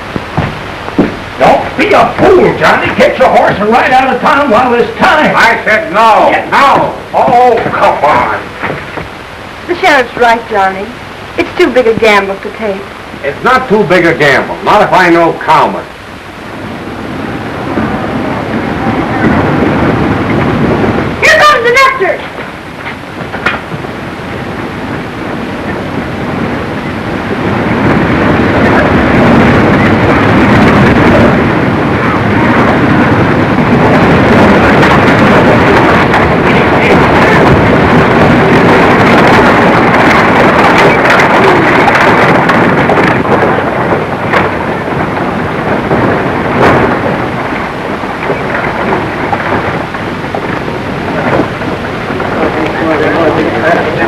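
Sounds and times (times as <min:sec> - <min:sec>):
galloping horses hooves: 0:00.0 - 0:09.2, 0:11.3 - 0:54.0
wagons rolling: 0:00.0 - 0:54.0.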